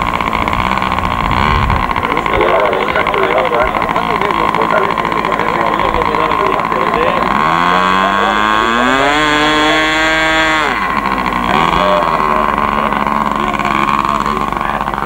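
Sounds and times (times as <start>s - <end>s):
model airplane engine revving: 0.0s - 15.0s.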